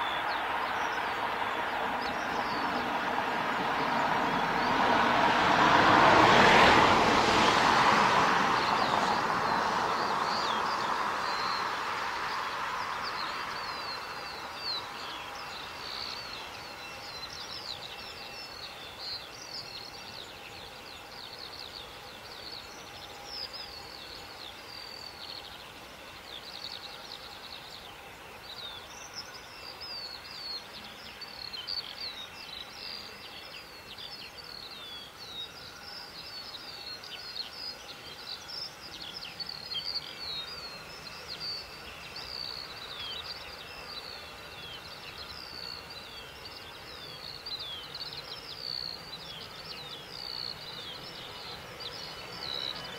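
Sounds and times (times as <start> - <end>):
small birds singing and chirping: 0.0 - 4.9, 8.6 - 52.9.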